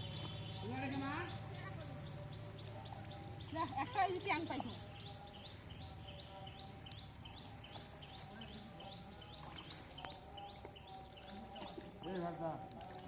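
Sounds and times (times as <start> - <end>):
bird chirping: 0.0 - 12.6.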